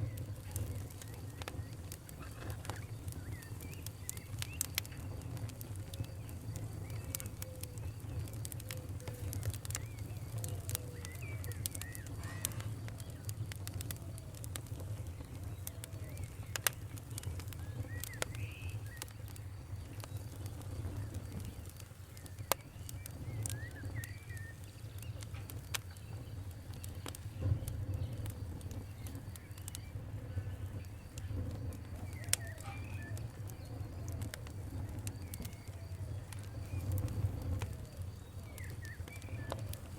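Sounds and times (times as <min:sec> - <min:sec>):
birds chirping: 0:00.0 - 0:39.9
campfire crackling and popping: 0:00.0 - 0:39.9
low rumble of flame: 0:00.0 - 0:39.9.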